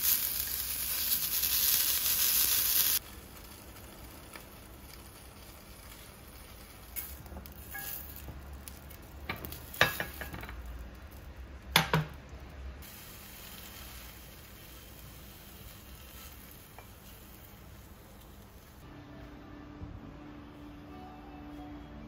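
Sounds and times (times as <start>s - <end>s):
mushrooms sizzling in oil: 0.0s - 18.8s.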